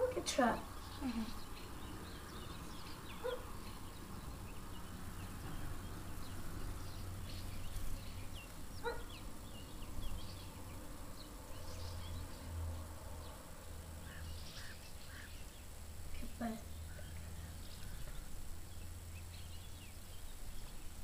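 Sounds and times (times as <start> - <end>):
swallows twittering: 0.5 - 21.0.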